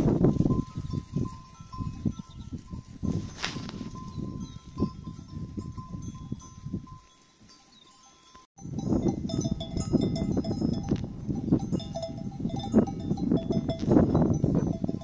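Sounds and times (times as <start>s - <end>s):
sheep neck bells clinking: 0.0s - 15.0s.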